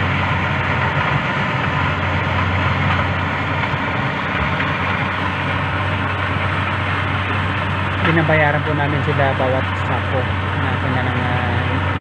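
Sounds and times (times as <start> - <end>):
harvester engine droning: 0.0 - 12.0.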